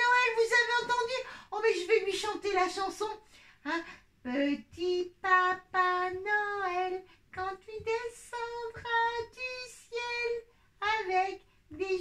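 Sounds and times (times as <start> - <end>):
high voice singing unaccompanied: 0.0 - 12.0.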